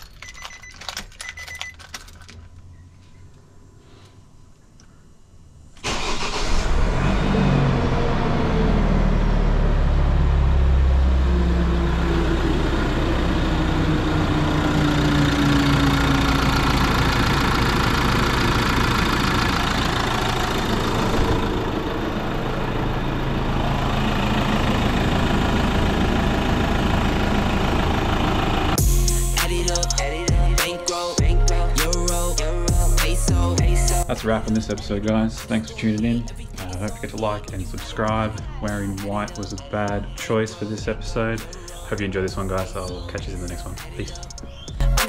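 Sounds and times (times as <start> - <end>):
diesel engine cranking and idling: 5.8 - 30.6, 31.2 - 45.0.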